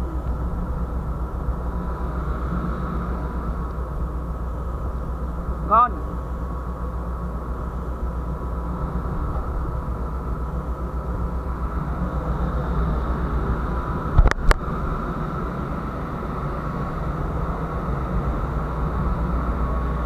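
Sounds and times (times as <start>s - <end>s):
faint steady tones: 0.0s - 20.0s
ship machinery humming: 0.0s - 20.0s.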